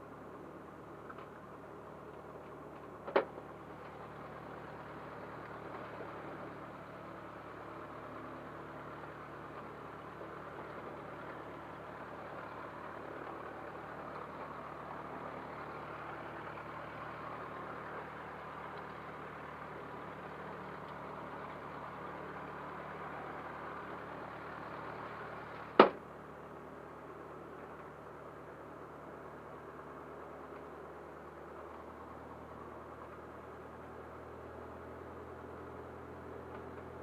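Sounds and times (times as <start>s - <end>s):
airplane engine droning: 0.0s - 37.0s.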